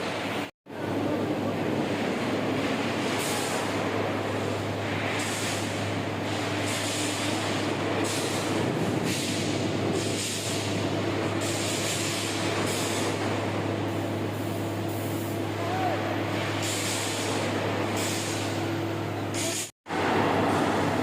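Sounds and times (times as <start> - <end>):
low machinery hum: 0.1 - 21.0.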